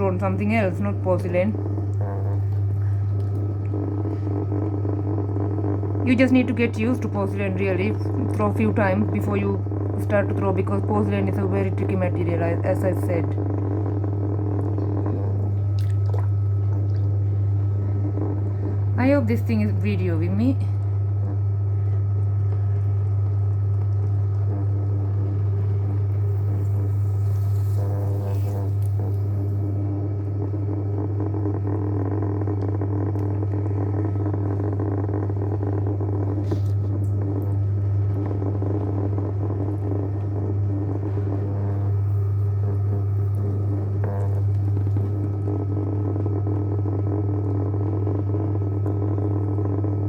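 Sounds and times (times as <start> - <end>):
pottery wheel motor humming: 0.0 - 50.0.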